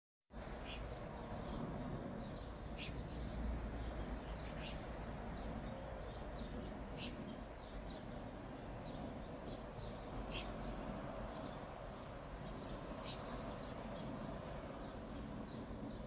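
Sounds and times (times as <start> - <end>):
birds chirping: 0.4 - 16.0.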